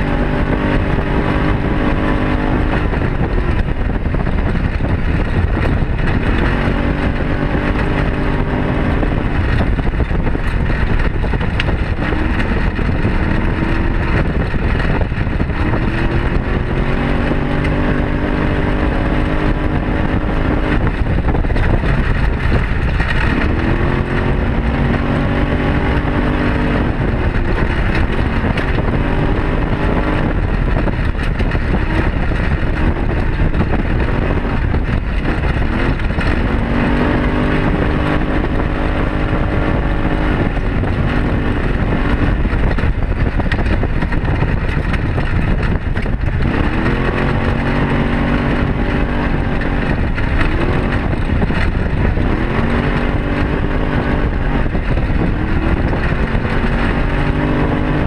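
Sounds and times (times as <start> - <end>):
off-road vehicle engine under load: 0.0 - 58.0
wind rumble: 0.0 - 58.0.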